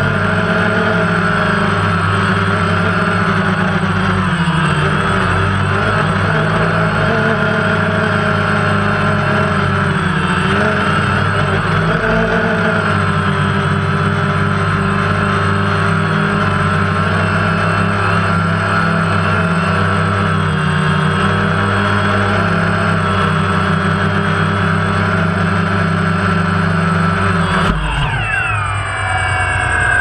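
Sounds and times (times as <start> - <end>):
drone motors humming: 0.0 - 30.0.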